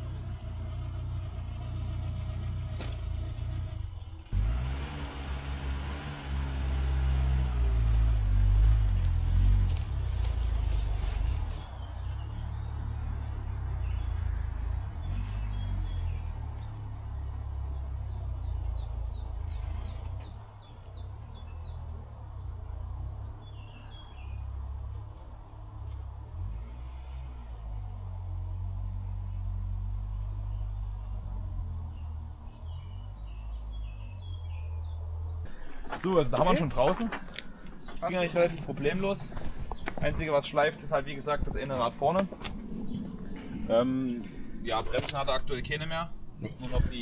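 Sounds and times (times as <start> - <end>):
birds chirping: 0.0 - 47.0
car engine running under load: 0.0 - 47.0.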